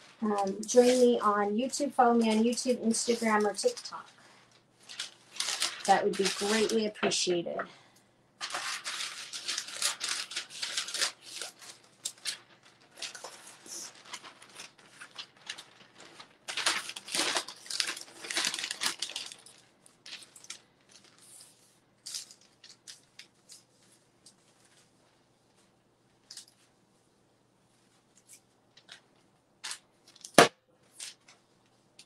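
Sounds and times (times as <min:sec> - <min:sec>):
paper rustling and crinkling: 0:00.0 - 0:07.4, 0:08.4 - 0:26.7, 0:27.8 - 0:31.8.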